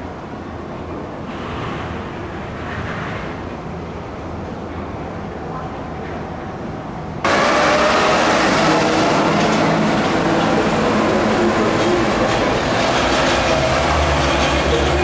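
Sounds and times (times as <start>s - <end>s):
train rumble and hiss: 0.0s - 15.0s.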